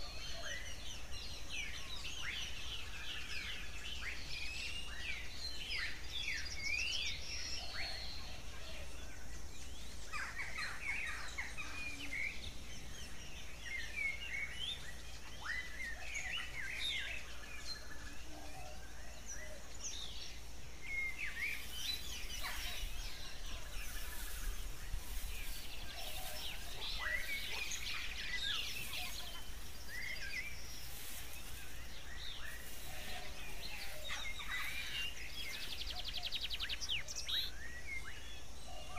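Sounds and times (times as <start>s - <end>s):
birds chirping and singing: 0.0s - 38.9s.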